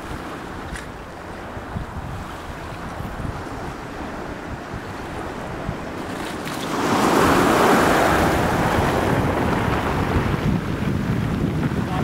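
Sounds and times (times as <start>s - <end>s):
sea waves washing onto shore: 0.0s - 12.0s
wind buffeting microphone: 0.0s - 12.0s.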